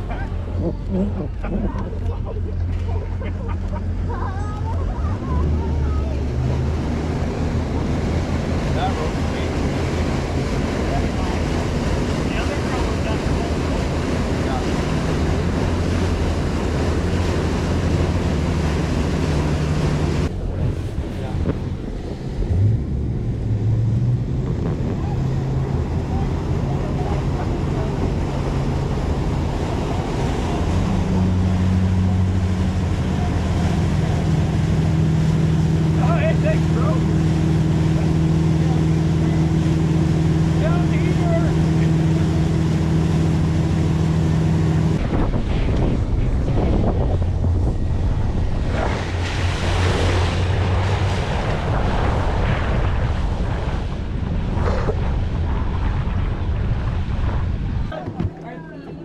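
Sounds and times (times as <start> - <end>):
motorboat engine running: 0.0 - 59.0
wind and water rushing: 0.0 - 59.0.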